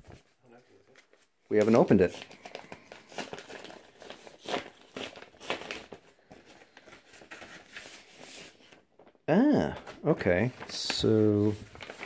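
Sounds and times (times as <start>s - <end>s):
paper envelope rustling: 0.0s - 12.0s.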